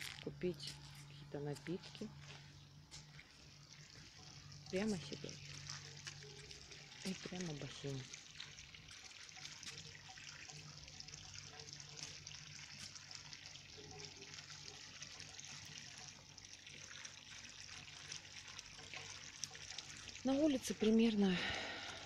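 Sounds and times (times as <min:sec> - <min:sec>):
low steady hum: 0:00.0 - 0:22.0
water running and trickling: 0:00.0 - 0:22.0.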